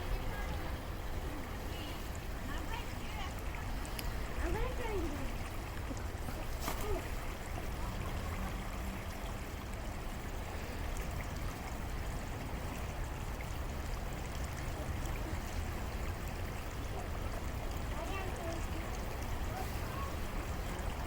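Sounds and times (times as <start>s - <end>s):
creek water running: 0.0s - 21.0s.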